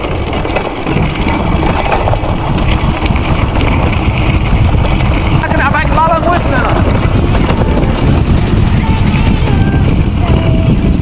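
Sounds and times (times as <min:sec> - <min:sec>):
bike knocking and rattling: 0:00.0 - 0:11.0
tyres rolling over loose stones: 0:00.0 - 0:11.0
wind rushing over microphone: 0:00.0 - 0:11.0.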